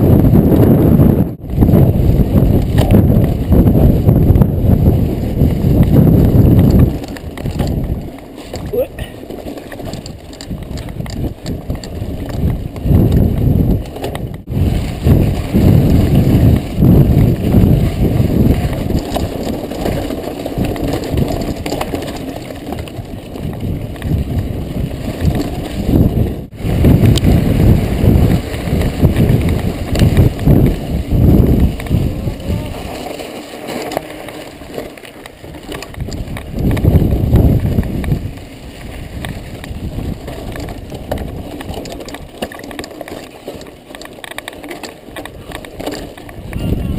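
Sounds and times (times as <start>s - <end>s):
bike tyres on gravel: 0.0s - 46.9s
wind buffeting microphone: 0.0s - 46.9s
bike frame rattle: 1.5s - 46.9s.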